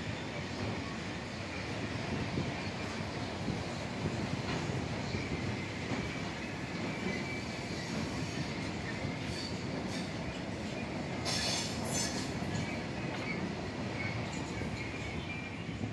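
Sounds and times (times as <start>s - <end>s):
train wheels rumbling and rattling: 0.0s - 15.9s.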